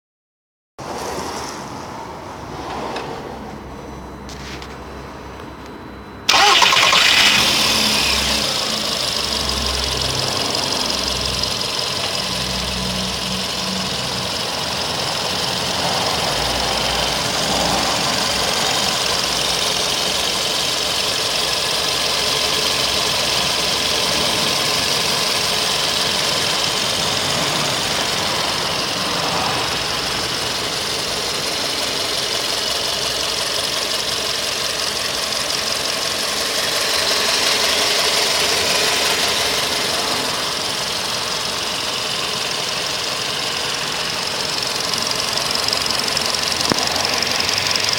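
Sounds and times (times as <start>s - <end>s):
car engine idling: 6.3s - 47.9s.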